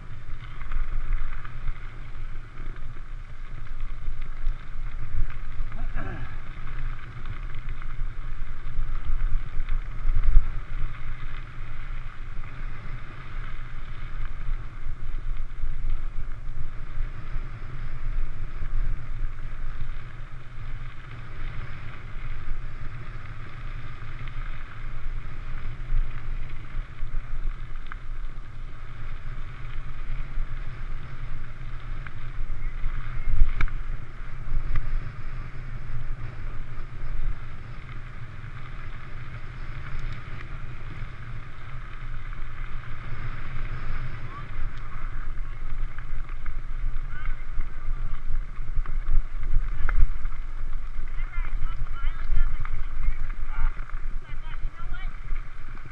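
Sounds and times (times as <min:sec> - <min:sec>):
bike tyres rumbling on gravel: 0:00.0 - 0:55.9
wind buffeting microphone: 0:00.0 - 0:55.9.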